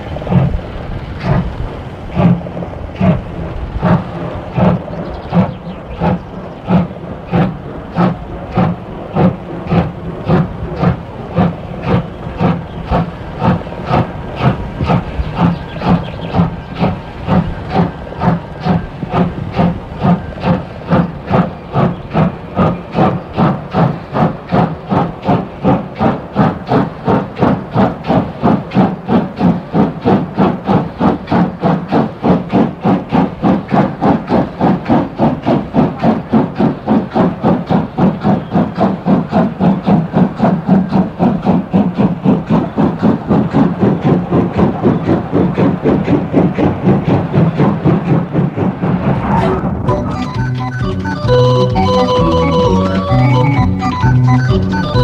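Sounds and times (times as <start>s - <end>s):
steam locomotive exhaust chuffs: 0.0s - 55.0s.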